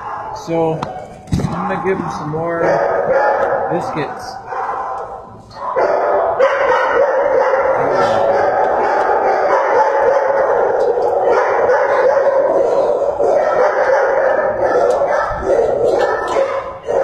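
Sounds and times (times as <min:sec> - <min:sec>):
many dogs barking: 0:00.0 - 0:17.0.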